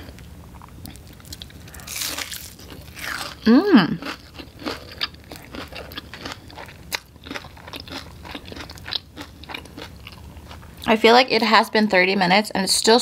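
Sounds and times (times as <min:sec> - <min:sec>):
crunchy chewing: 0:00.0 - 0:10.9.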